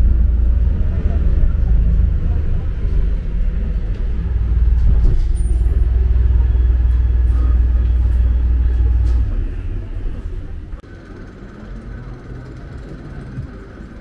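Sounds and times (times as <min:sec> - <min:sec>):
road train carriage rumbling: 0:00.0 - 0:14.0.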